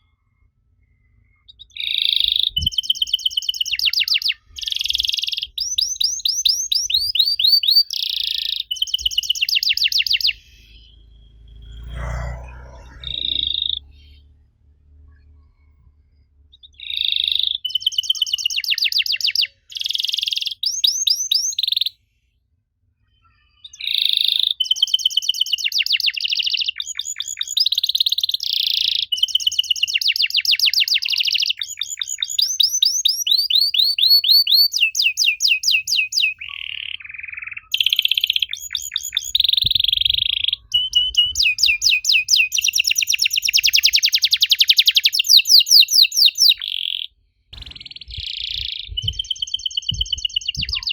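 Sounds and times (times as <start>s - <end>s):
canary singing: 1.5s - 14.4s, 16.4s - 22.0s, 23.6s - 50.9s.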